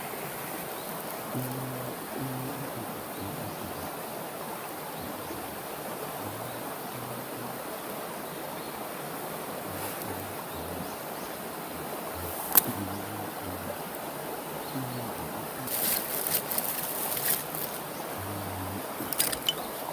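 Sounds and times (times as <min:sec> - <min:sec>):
flowing water rushing: 0:00.0 - 0:19.9.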